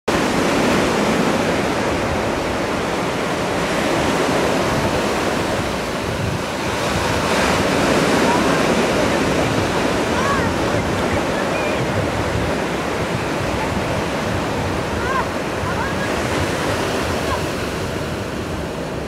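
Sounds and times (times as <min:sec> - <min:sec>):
waves washing against rocks: 0:00.1 - 0:19.0
wind buffeting microphone: 0:00.1 - 0:19.0.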